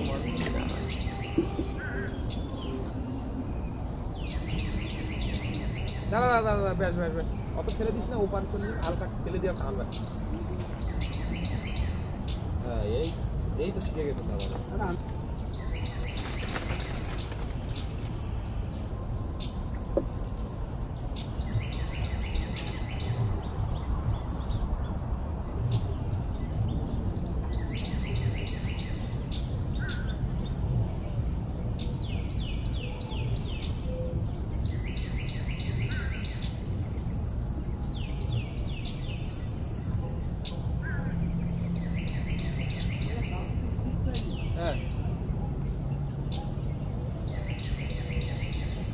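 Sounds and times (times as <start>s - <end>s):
high-pitched insect drone: 0.0s - 48.9s
insect chirping bursts: 0.0s - 48.9s.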